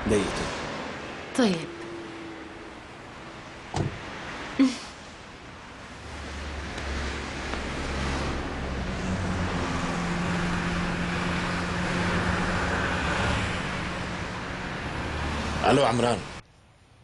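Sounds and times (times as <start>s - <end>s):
cars passing: 0.0s - 16.4s.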